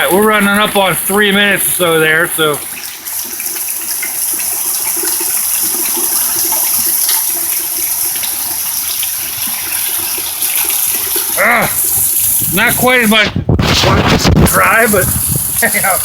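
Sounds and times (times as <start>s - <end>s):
heavy rain pouring: 0.0s - 3.2s, 3.8s - 16.0s.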